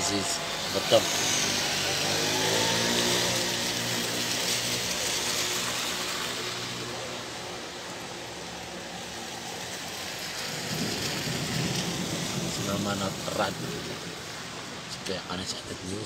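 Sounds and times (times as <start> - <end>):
vehicle engine hum: 0.0 - 14.8
heavy rain hissing: 0.0 - 16.0.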